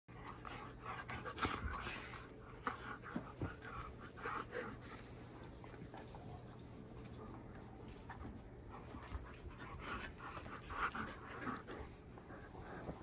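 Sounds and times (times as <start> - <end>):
dogs panting: 0.1 - 6.5, 8.6 - 13.0
dogs play-fighting: 0.1 - 13.0.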